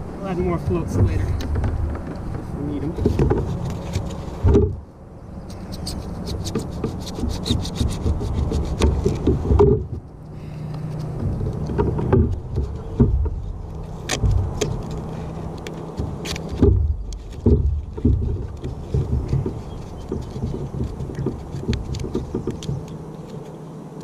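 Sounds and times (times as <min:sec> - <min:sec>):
knocks and rubbing against boat hull: 0:00.2 - 0:23.9.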